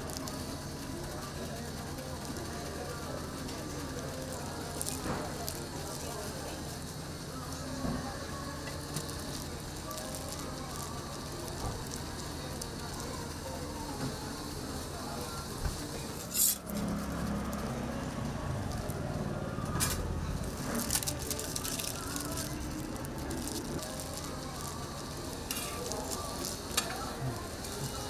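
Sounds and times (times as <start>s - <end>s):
food sizzling on a griddle: 0.0s - 28.0s.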